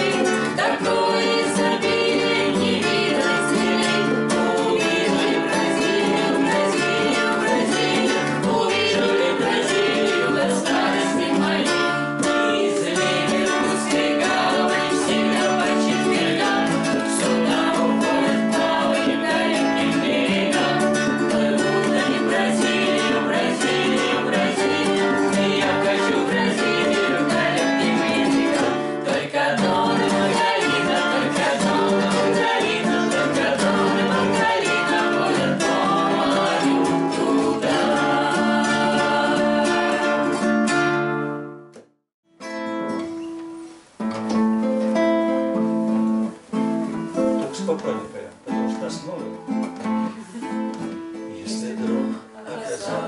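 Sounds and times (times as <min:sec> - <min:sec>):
acoustic guitars strumming: 0:00.0 - 0:53.0.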